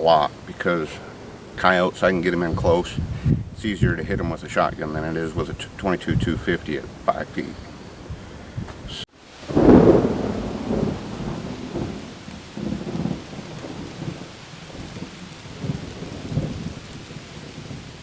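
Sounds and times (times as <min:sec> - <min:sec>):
rain hiss: 0:00.0 - 0:18.0
thunder rolling: 0:00.0 - 0:18.0.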